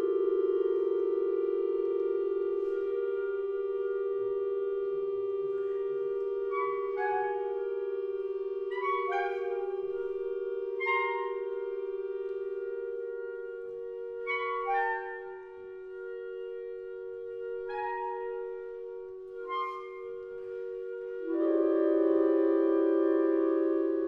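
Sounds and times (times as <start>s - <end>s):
clarinet ensemble playing: 0.0s - 24.0s.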